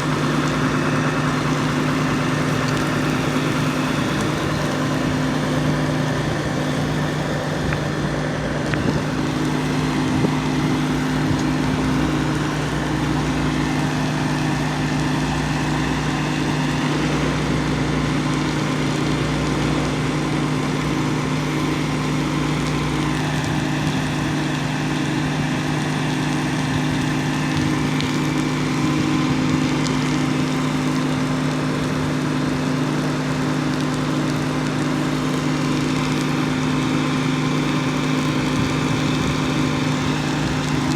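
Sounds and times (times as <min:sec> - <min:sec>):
fire truck engine running: 0:00.0 - 0:40.9.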